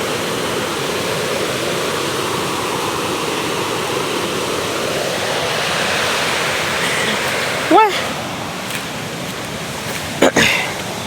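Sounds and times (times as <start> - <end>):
waterfall rushing and splashing: 0.0 - 11.0.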